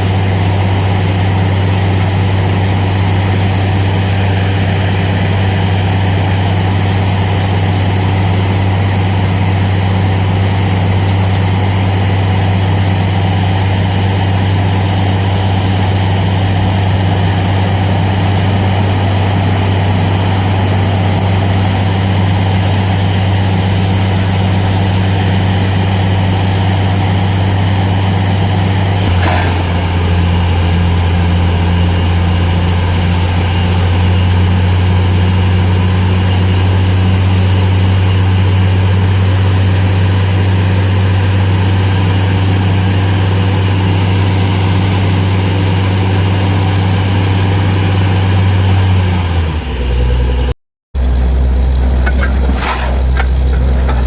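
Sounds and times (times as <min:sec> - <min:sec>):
drilling rig engine hum: 0:00.0 - 0:54.0.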